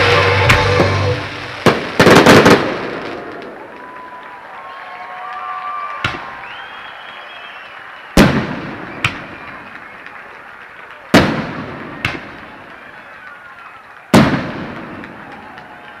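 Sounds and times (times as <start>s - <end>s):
faint firework crack: 0.0s - 7.1s, 8.0s - 16.0s.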